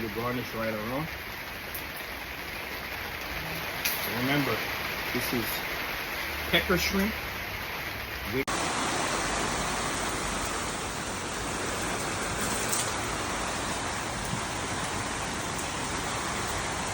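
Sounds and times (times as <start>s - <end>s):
steady rain hissing: 0.0s - 16.9s.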